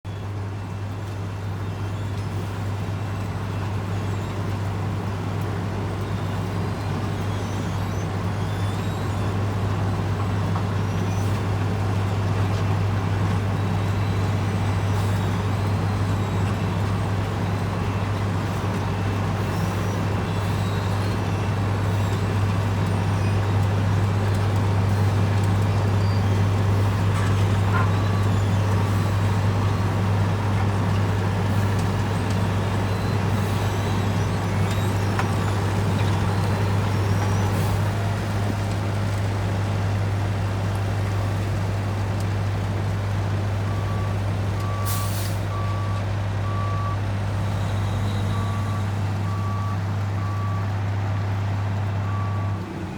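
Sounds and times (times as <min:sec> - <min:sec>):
diesel construction machinery humming: 0:00.1 - 0:52.9.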